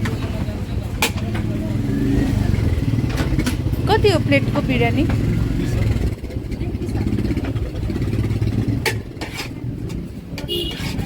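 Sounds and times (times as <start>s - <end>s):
motorbike engine rumbling: 0.0s - 11.0s.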